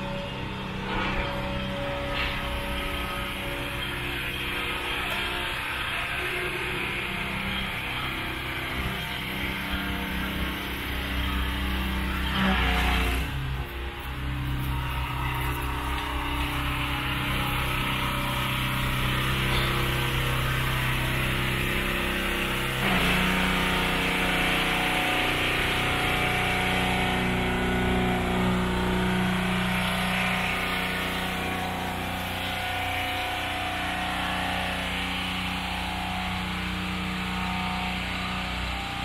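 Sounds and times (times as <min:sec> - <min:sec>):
motor running: 0:00.0 - 0:39.0.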